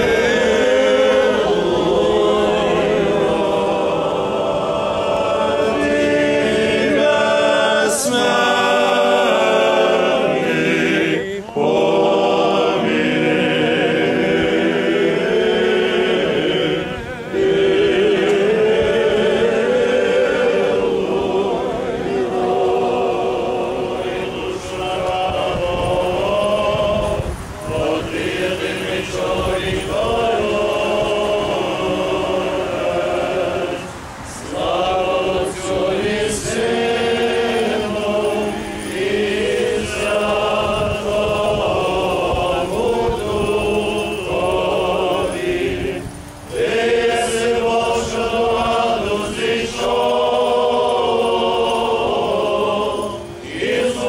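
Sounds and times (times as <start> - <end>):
group chanting a hymn: 0.0 - 54.0.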